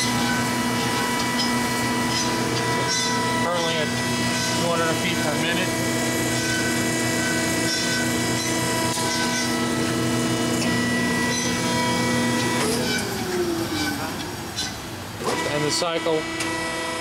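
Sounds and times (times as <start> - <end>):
band saw humming and whining: 0.0 - 17.0.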